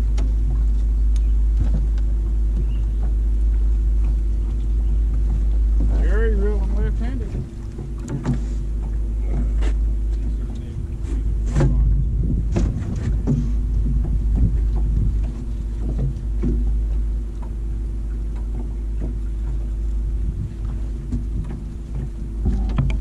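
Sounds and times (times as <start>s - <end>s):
steady low hum: 0.0s - 23.0s
wind buffeting microphone: 0.0s - 23.0s.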